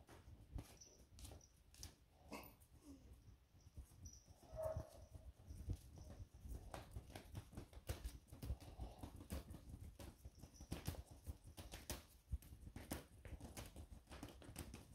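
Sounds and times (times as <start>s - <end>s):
faint clicking and tapping: 0.0s - 14.9s.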